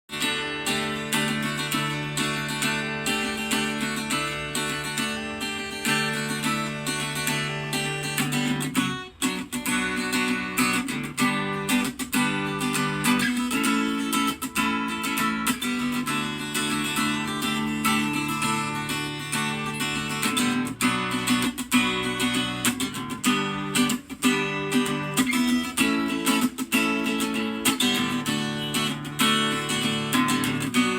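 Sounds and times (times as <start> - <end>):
acoustic guitar strummed and picked: 0.1 - 30.9.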